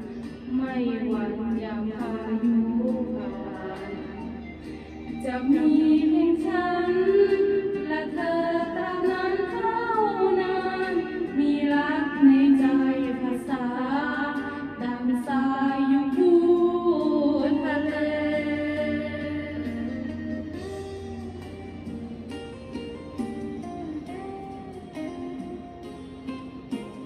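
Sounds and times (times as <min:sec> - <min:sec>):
woman singing into a microphone: 0:00.0 - 0:21.8.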